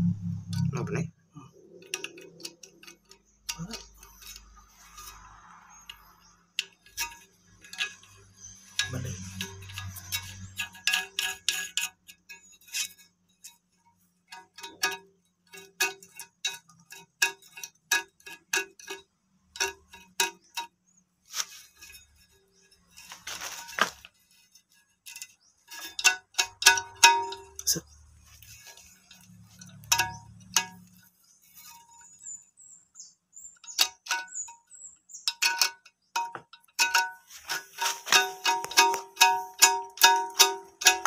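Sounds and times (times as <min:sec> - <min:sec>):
ceramic tank ringing: 0:00.0 - 0:21.0, 0:24.2 - 0:41.0.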